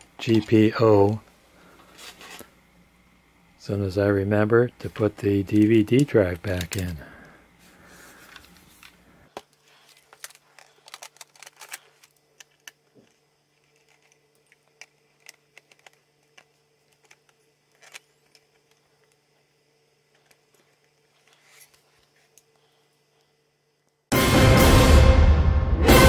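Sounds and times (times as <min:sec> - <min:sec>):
faint low hum: 0:00.0 - 0:24.1.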